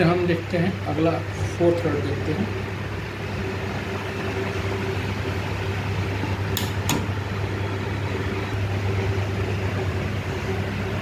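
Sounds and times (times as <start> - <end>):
mechanical room hum: 0.0 - 11.0.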